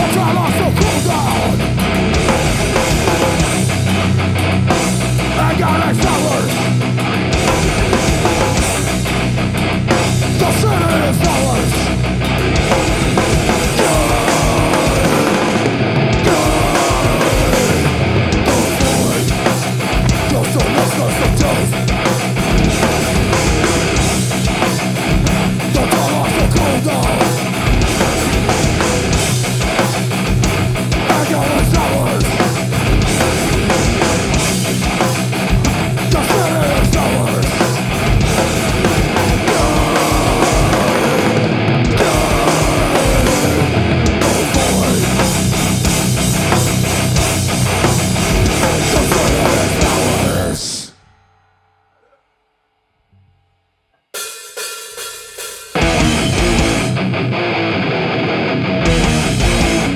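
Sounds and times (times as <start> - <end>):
bass guitar: 0.0 - 50.9, 55.8 - 59.9
drum kit: 0.0 - 50.9, 54.2 - 57.7, 58.8 - 59.9
electric guitar: 0.0 - 50.9, 55.8 - 59.9.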